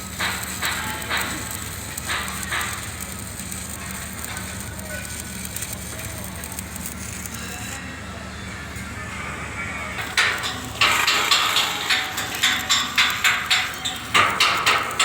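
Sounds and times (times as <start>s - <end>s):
welding arc crackling: 0.0s - 7.8s, 9.9s - 15.0s.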